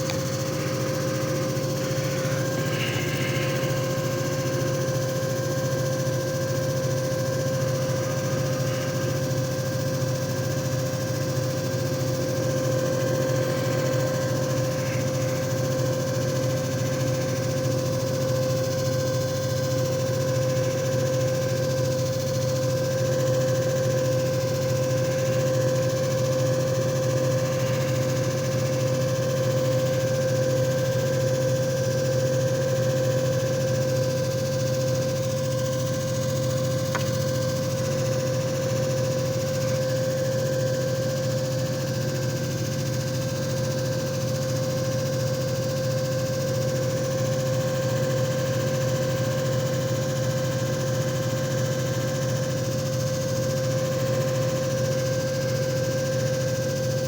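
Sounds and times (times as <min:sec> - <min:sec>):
machine motor hum and whine: 0:00.0 - 0:57.0.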